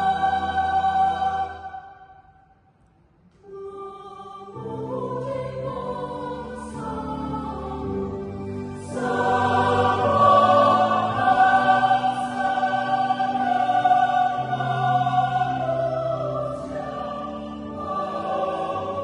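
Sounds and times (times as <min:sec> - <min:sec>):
church choir singing: 0:00.0 - 0:02.4, 0:03.4 - 0:19.0.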